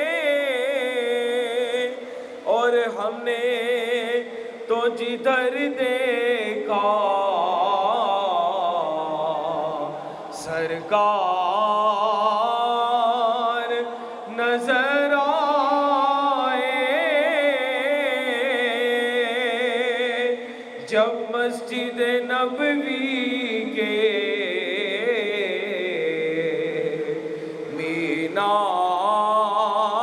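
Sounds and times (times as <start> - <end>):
man singing into a microphone: 0.0 - 30.0.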